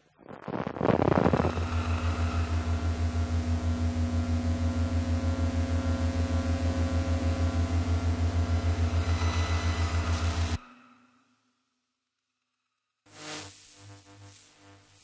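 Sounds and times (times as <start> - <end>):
crackling noise burst: 0.0 - 10.6, 13.1 - 15.0
throbbing electric hum: 0.2 - 10.6, 13.1 - 15.0.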